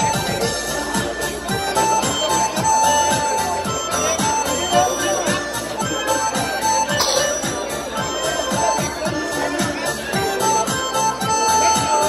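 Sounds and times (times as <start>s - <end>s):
dance music: 0.0s - 12.0s.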